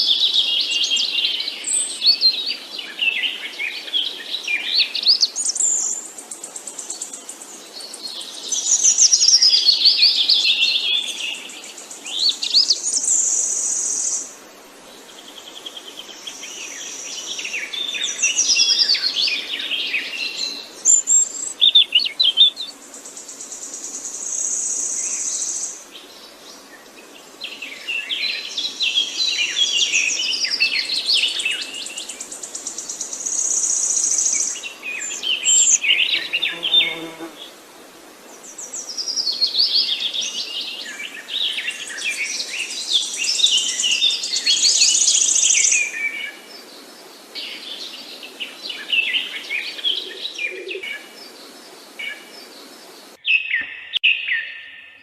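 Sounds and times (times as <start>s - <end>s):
songbirds chirping and trilling: 0.0s - 37.6s, 38.2s - 55.0s.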